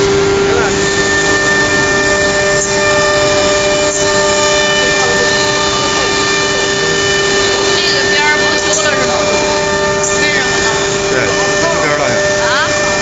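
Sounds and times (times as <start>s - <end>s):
cnc router spindle whine: 0.0s - 13.0s
rushing machine noise: 0.0s - 13.0s.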